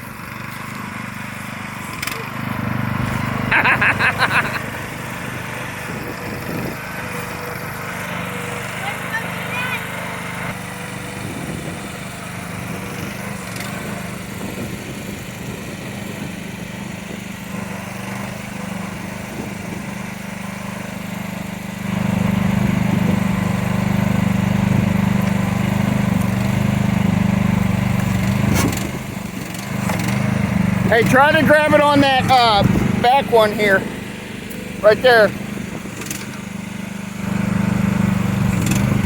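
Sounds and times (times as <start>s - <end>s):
mini excavator engine running: 0.0s - 39.0s.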